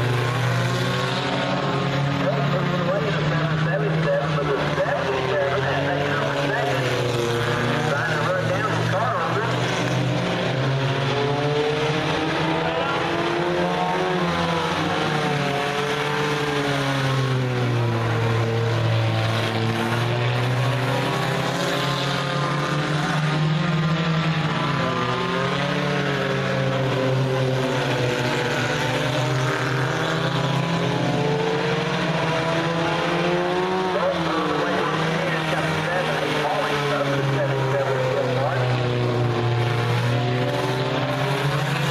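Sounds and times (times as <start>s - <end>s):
race car engines passing: 0.0s - 41.9s.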